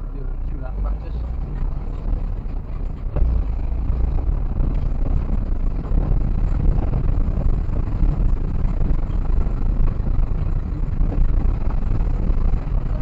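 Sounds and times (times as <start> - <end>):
car engine running: 0.0 - 13.0
rattling in car cabin: 0.6 - 13.0.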